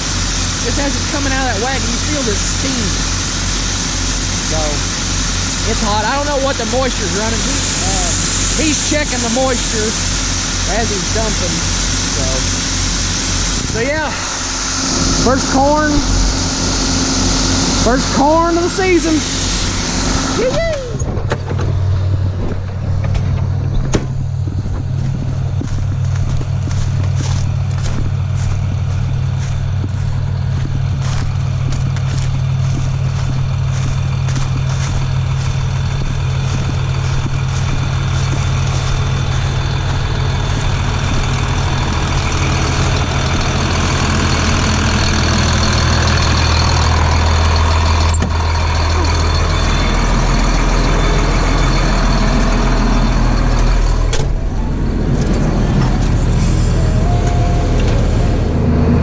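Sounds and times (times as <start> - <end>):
farm machine diesel engine running: 0.0 - 59.0.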